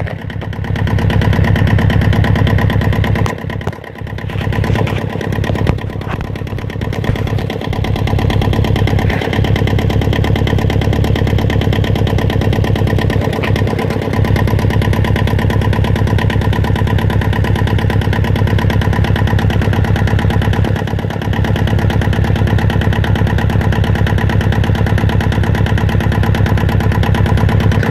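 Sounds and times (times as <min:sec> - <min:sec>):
marine diesel engine running: 0:00.0 - 0:27.9.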